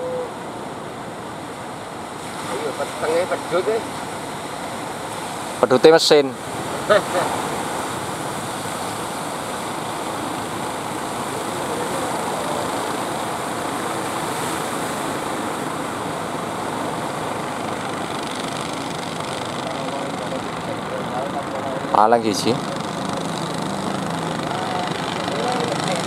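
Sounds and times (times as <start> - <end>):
boat engines droning: 0.0 - 26.0.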